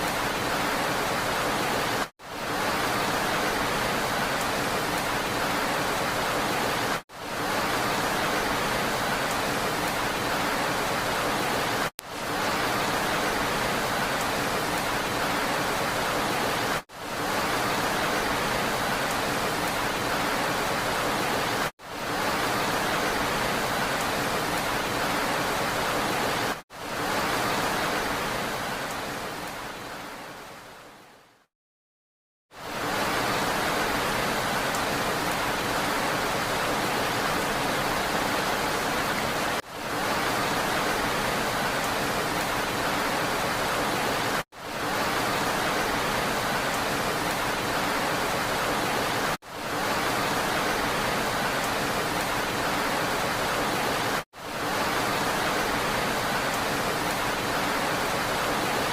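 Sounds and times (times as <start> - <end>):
steady rain: 0.0 - 31.5, 32.5 - 58.9.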